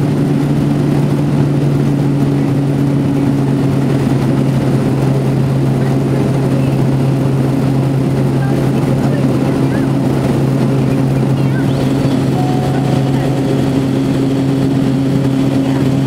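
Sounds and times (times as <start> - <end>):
turboprop engine droning: 0.0 - 16.0.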